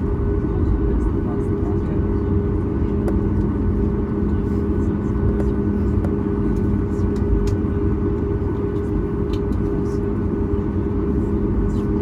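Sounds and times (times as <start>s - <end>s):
airplane cabin rumble and hum: 0.0s - 12.0s.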